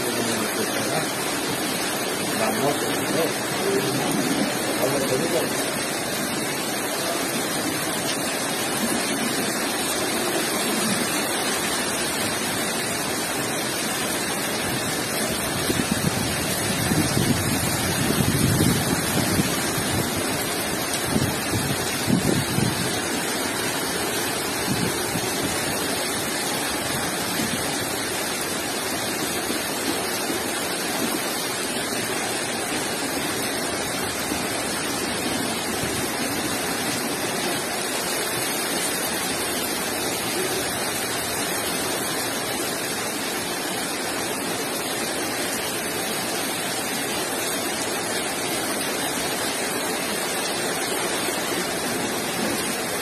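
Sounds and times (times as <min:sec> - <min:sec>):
floodwater rushing through street: 0:00.0 - 0:53.0.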